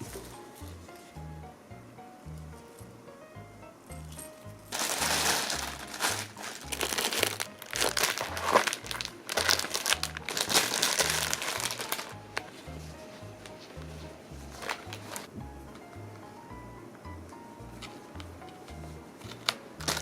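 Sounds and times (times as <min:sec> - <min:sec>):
crinkling handling noise: 0:00.0 - 0:01.2, 0:03.9 - 0:16.3, 0:17.3 - 0:20.0
music with low beat: 0:00.0 - 0:20.0.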